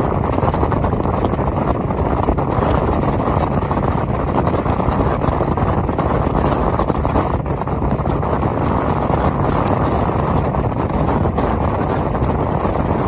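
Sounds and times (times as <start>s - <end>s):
outboard motor drone: 0.0s - 13.0s
wind rushing over microphone: 0.0s - 13.0s.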